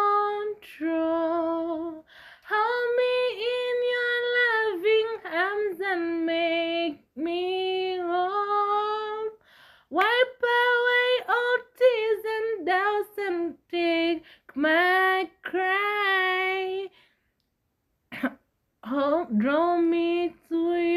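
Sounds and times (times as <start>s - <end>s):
woman singing a hymn: 0.0s - 17.0s, 18.8s - 20.9s.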